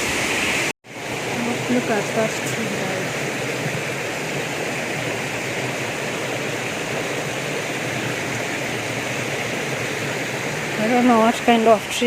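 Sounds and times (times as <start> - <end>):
waterfall and river rushing: 0.0 - 12.0.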